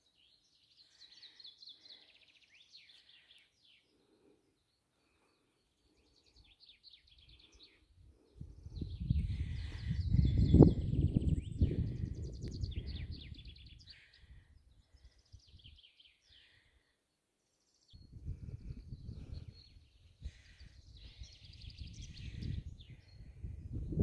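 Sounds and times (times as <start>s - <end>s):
songbirds singing with trills: 0.0s - 24.0s.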